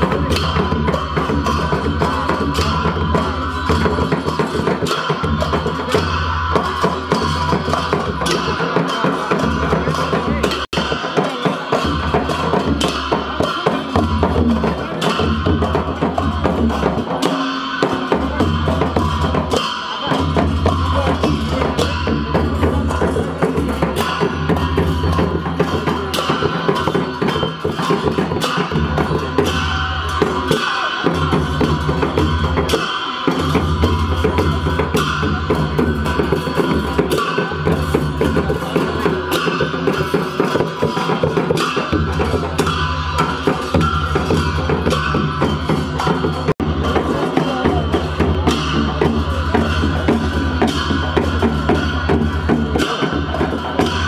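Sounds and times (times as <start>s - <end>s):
large drum beaten in driving rhythm: 0.0s - 54.0s.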